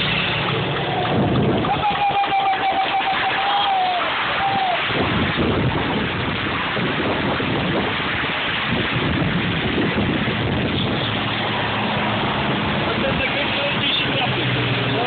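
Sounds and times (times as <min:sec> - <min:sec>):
wind buffeting microphone: 0:00.0 - 0:02.1, 0:04.4 - 0:14.9.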